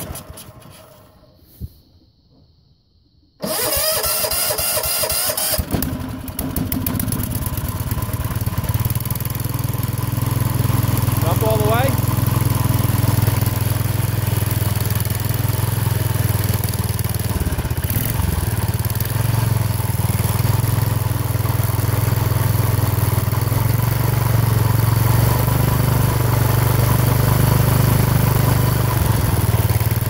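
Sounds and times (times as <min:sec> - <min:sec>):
lawn tractor engine running: 0:00.0 - 0:01.2, 0:03.4 - 0:30.0.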